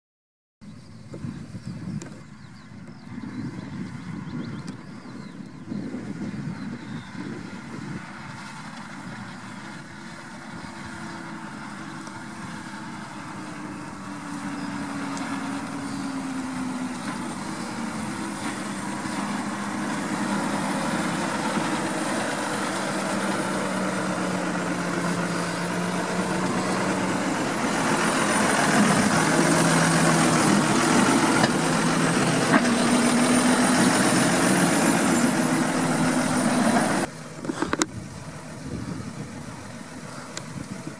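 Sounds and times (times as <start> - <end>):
tractor diesel engine running: 0.6 - 40.9.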